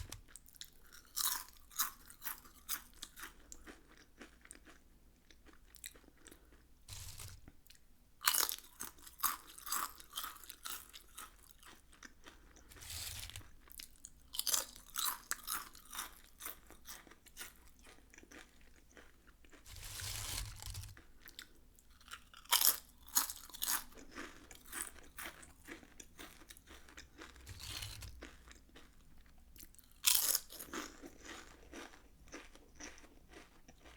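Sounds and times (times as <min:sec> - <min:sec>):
potato chips crunching: 0:00.0 - 0:04.8, 0:05.4 - 0:29.0, 0:29.6 - 0:33.9.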